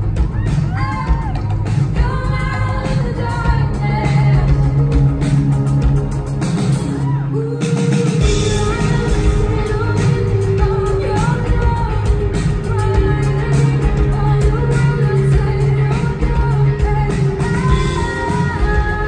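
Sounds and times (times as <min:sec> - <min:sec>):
drums: 0:00.0 - 0:19.0
electric guitars: 0:00.0 - 0:19.0
woman singing into microphone: 0:00.6 - 0:05.3, 0:07.0 - 0:19.0.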